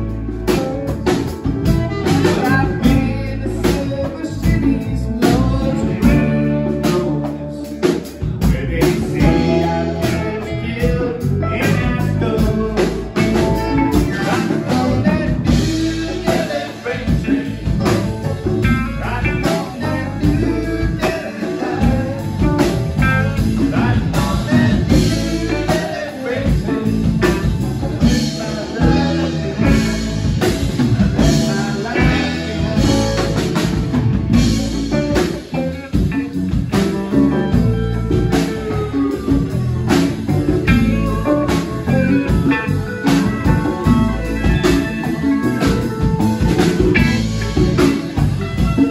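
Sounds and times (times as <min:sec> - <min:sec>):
saxophone: 0:00.0 - 0:03.4, 0:05.7 - 0:23.6, 0:24.5 - 0:48.9
live blues-rock band: 0:00.0 - 0:48.9
person singing: 0:00.0 - 0:48.9.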